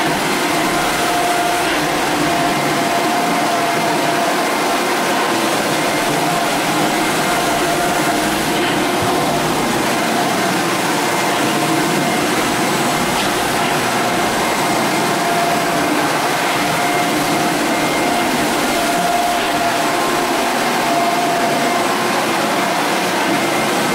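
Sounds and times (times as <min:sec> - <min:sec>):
floor sanding machine running: 0:00.0 - 0:23.9.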